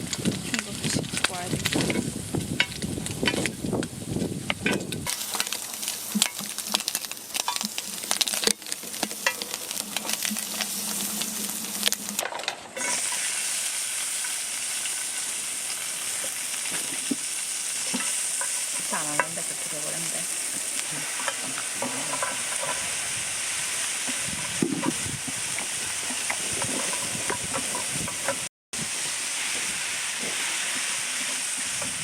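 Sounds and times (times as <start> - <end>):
meat sizzling in a hot pan: 0.0 - 12.2, 12.8 - 32.0.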